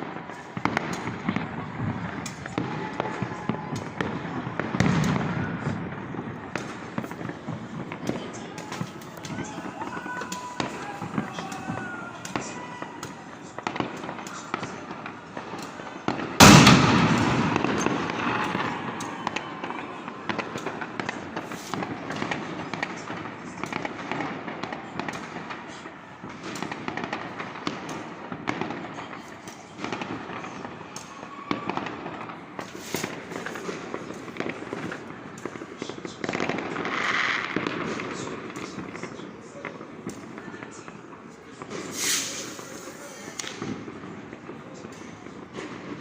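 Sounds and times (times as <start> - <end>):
loud close firework blast: 0.0 - 29.1, 29.7 - 39.2, 39.8 - 46.0
fireworks crackling and banging: 0.0 - 46.0.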